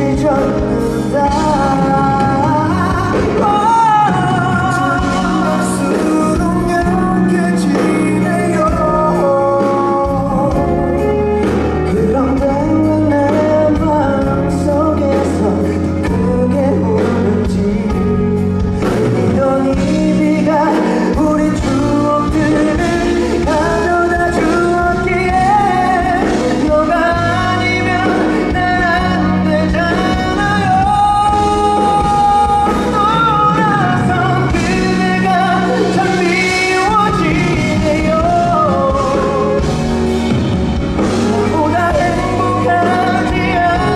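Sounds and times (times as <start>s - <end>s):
man singing a ballad: 0.0s - 40.3s, 40.9s - 43.9s
live band playing: 0.0s - 43.9s.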